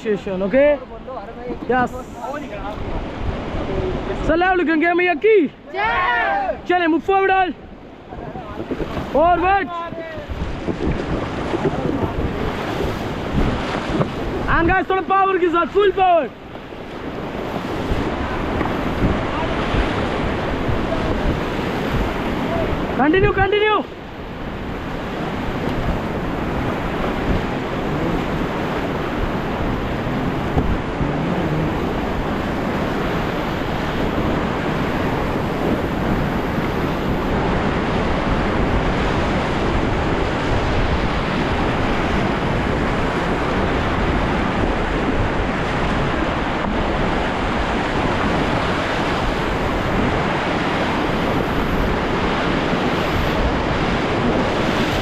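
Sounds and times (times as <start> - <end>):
wind noise on microphone: 1.6 - 4.3, 7.7 - 14.8, 16.4 - 55.0
river rapids rushing: 1.7 - 55.0.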